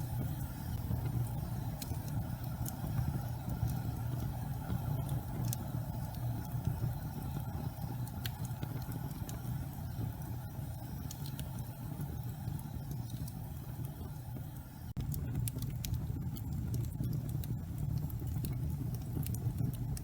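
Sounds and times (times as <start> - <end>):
faint sharp crackles: 0.0 - 20.0
gas fireplace flames rumbling: 0.0 - 20.0.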